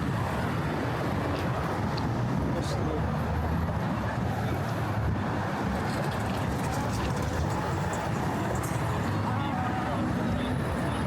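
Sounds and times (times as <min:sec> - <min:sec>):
faint voices of passers-by: 0:00.0 - 0:11.0.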